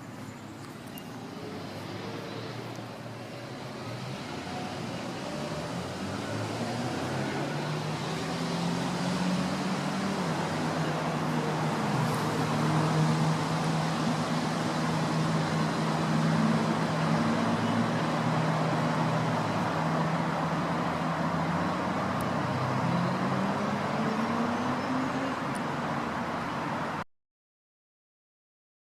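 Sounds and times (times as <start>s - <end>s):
passing traffic hum: 0.0s - 27.0s.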